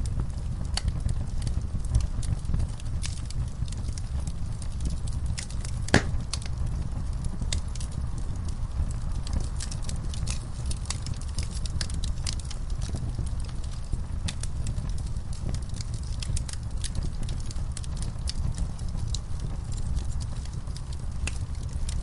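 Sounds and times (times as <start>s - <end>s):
fire popping and snapping: 0.0s - 22.0s
low rumble of flames: 0.0s - 22.0s.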